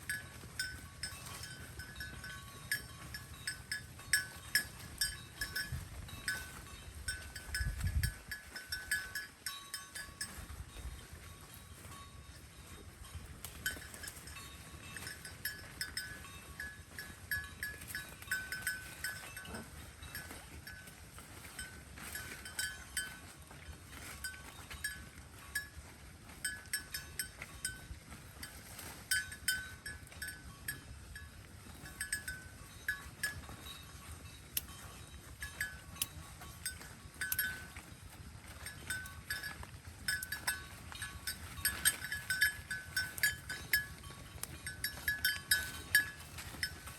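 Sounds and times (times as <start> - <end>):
small bell ringing: 0.0 - 23.3, 26.4 - 46.9
cattle chewing hay: 0.0 - 46.9.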